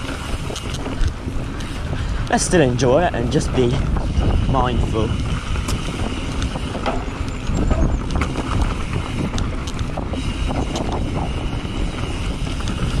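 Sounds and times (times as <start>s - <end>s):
bike clicks and rattles: 0.0s - 13.0s
bike tyre rumble on dirt: 0.0s - 13.0s
wind buffeting microphone: 0.0s - 13.0s.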